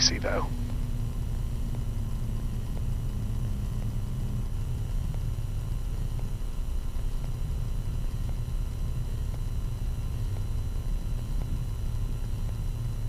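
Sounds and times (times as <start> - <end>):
jet engines idling rumble: 0.0 - 13.0.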